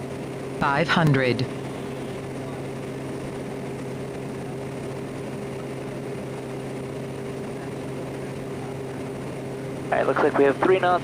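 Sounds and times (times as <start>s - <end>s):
turboprop engine drone: 0.0s - 11.0s.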